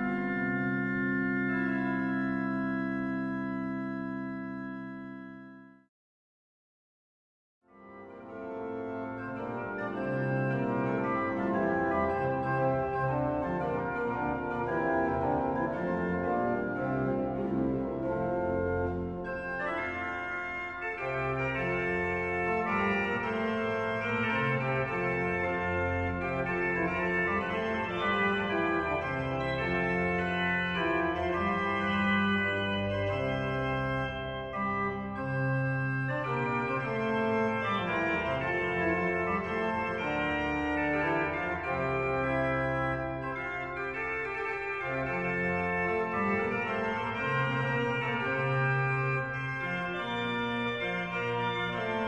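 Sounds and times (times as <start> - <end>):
pipe organ playing: 0.0 - 5.8, 7.7 - 52.0.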